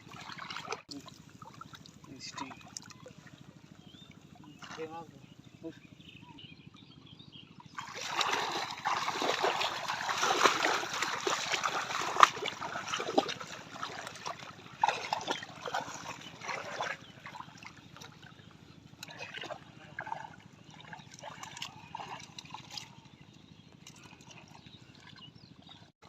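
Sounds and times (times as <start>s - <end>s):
river water splashing: 0.0s - 5.6s, 7.6s - 23.1s.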